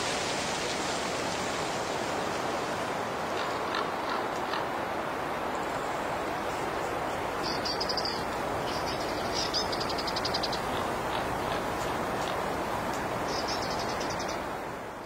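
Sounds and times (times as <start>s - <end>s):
steady wind: 0.0s - 15.0s.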